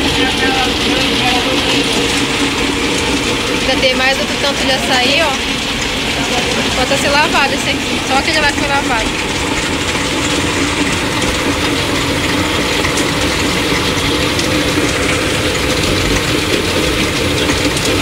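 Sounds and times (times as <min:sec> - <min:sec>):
pulping machine running: 0:00.0 - 0:18.0.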